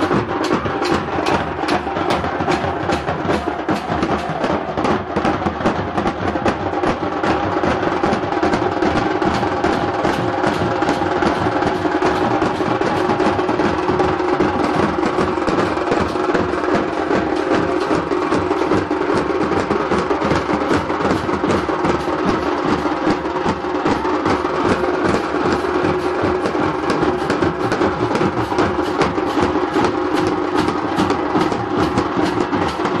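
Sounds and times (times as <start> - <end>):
fast loud drumming: 0.0 - 33.0.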